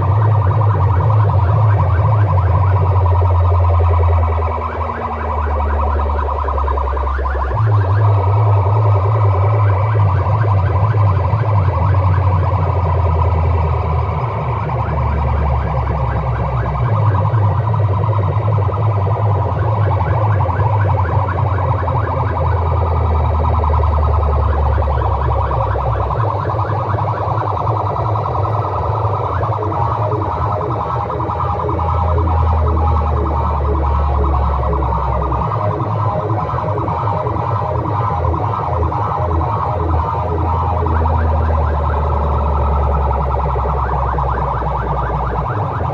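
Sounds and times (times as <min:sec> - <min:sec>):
loud distorted electronic music: 0:00.0 - 0:45.9.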